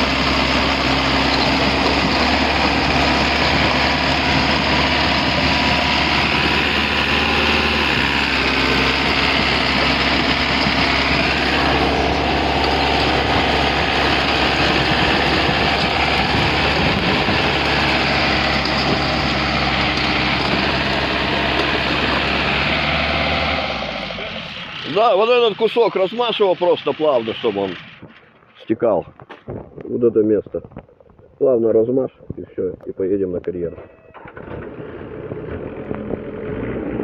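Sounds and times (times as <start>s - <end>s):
diesel engine humming: 0.0s - 28.6s, 33.4s - 37.0s.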